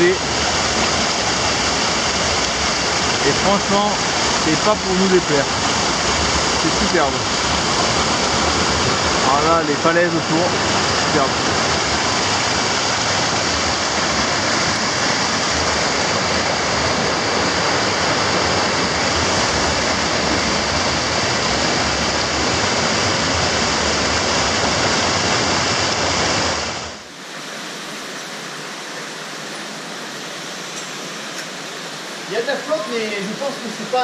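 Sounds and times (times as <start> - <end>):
rushing water cascades: 0.0 - 34.0.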